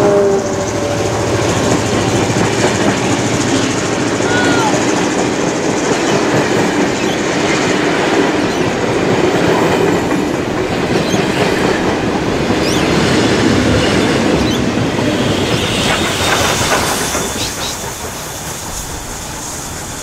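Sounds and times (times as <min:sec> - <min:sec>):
train wheels clattering over rail joints: 0:00.1 - 0:04.2, 0:04.8 - 0:20.0.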